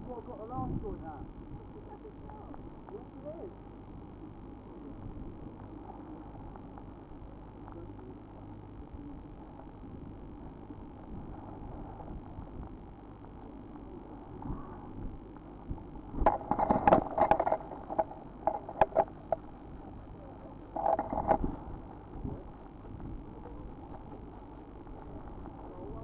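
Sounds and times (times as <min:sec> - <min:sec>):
nestlings begging chittering: 0:00.0 - 0:09.8, 0:10.5 - 0:11.6, 0:15.4 - 0:26.0.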